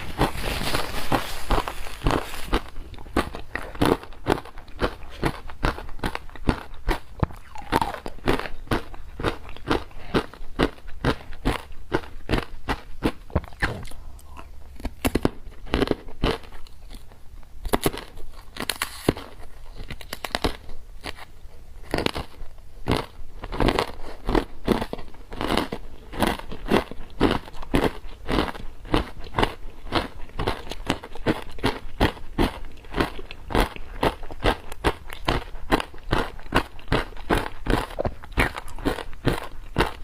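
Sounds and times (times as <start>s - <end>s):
ice being chewed: 0.0s - 21.3s, 21.9s - 40.0s.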